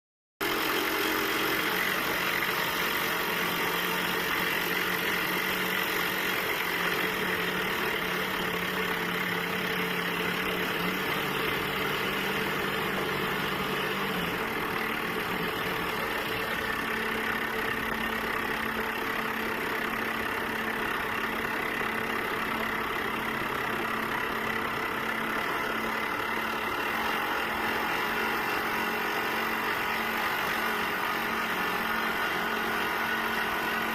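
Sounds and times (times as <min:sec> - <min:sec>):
hydraulic rock drill running: 0:00.4 - 0:33.9.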